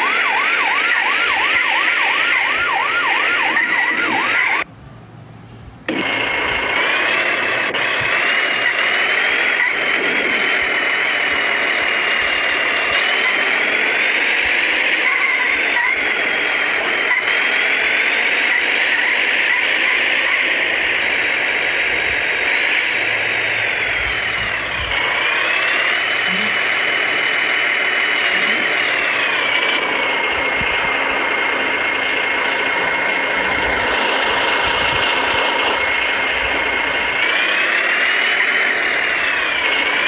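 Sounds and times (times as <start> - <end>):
ambulance siren wailing: 0.0 - 4.7, 5.9 - 40.0
steady vehicle noise with whine: 0.0 - 40.0.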